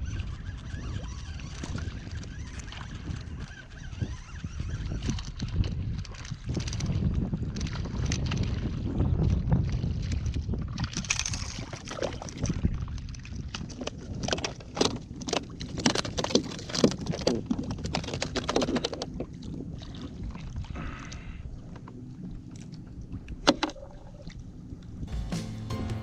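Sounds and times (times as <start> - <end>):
low rumble of wind: 0.0 - 25.1
water: 0.0 - 25.1.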